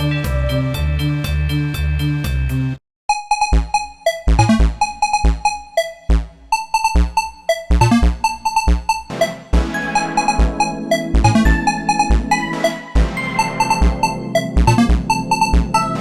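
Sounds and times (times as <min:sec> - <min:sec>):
drum-machine beat: 0:03.1 - 0:16.0
electronic synth ringtone: 0:03.1 - 0:16.0
midi ringtone on rock sounds: 0:03.1 - 0:16.0.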